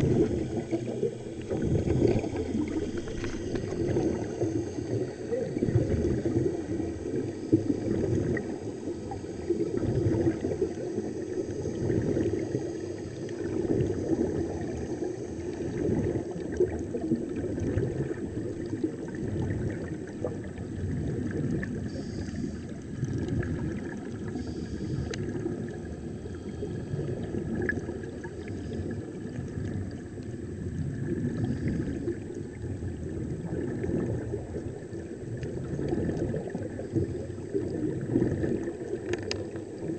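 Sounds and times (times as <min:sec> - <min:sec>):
air bubbles: 0:00.0 - 0:39.9
low underwater rumble: 0:00.0 - 0:39.9
water gurgling: 0:00.0 - 0:39.9.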